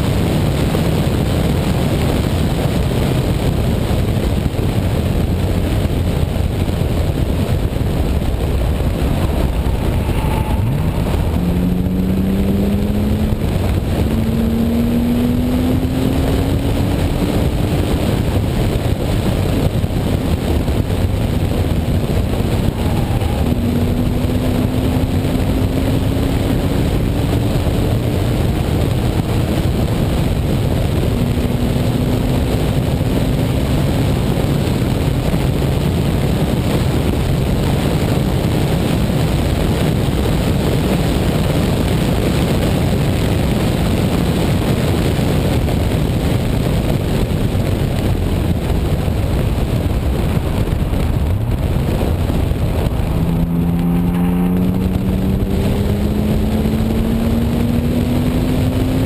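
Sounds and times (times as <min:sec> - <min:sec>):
car engine accelerating: 0:00.0 - 0:59.0
heavy wind rush: 0:00.0 - 0:59.0.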